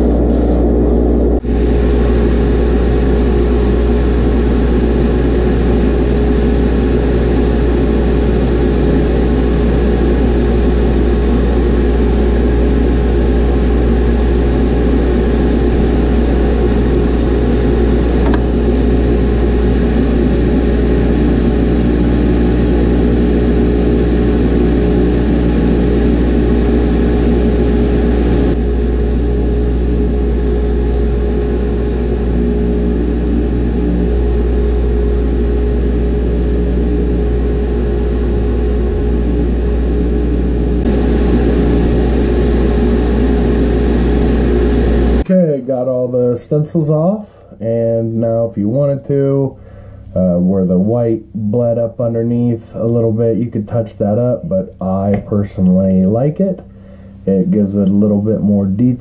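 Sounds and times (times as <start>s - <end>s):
exhaust fan droning: 0.0s - 59.0s.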